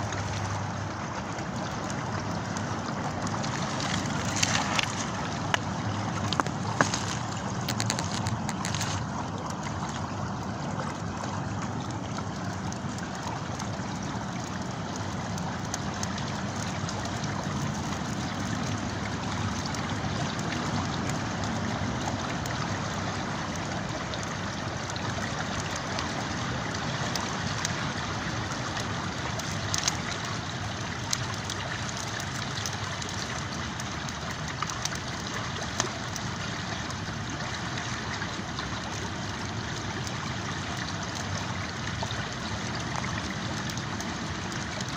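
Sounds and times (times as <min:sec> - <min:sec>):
campfire crackles: 0:00.0 - 0:44.9
river water flowing: 0:00.0 - 0:44.9.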